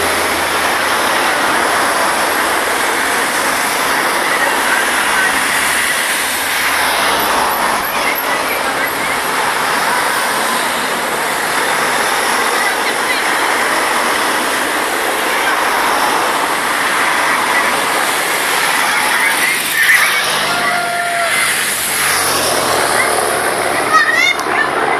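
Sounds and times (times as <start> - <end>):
cars driving past: 0.0 - 24.9.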